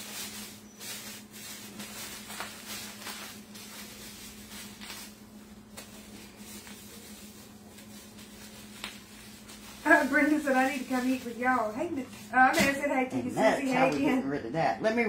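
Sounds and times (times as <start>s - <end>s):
plastic bag crinkling: 0.0s - 12.8s
steady low hum: 0.0s - 15.0s.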